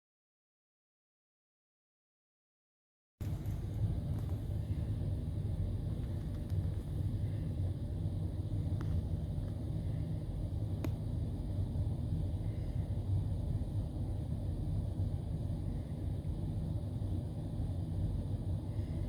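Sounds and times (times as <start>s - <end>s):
steady low rumble: 3.2s - 19.0s.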